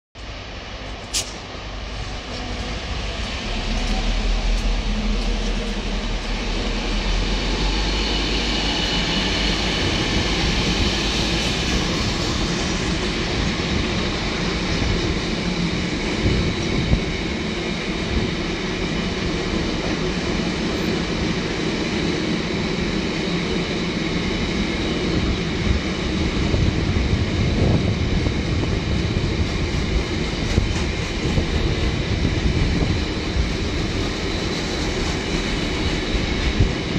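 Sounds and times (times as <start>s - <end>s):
diesel locomotive engine: 0.2s - 36.9s.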